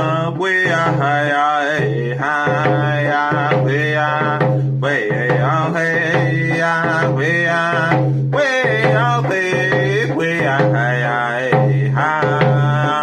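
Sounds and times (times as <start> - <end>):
hand drum beat: 0.0 - 13.0
man singing: 0.0 - 13.0.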